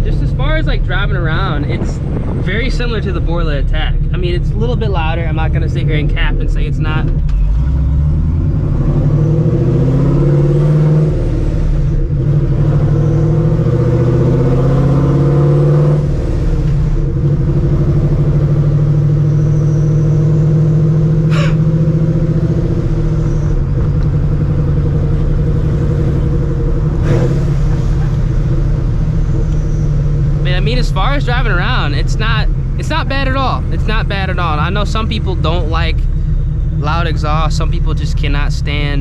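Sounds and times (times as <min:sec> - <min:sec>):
car engine drone from inside: 0:00.0 - 0:39.0.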